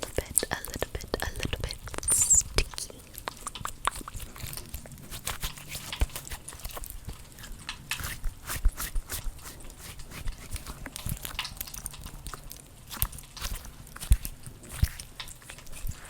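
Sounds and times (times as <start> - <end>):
sticky squishy toys squeezed: 0.0 - 16.0.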